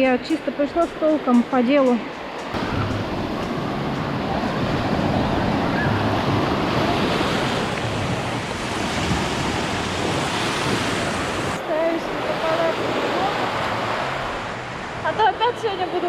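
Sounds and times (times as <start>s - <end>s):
surf washing on shore: 0.0s - 16.0s
wind buffeting microphone: 0.0s - 16.0s.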